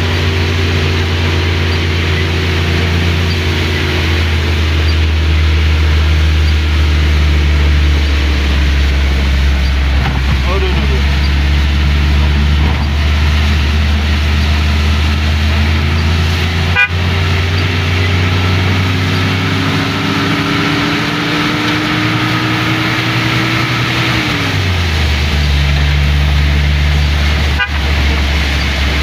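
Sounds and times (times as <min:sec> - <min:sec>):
car engine running: 0:00.0 - 0:29.0
rain and wet tyres hiss: 0:00.0 - 0:29.0.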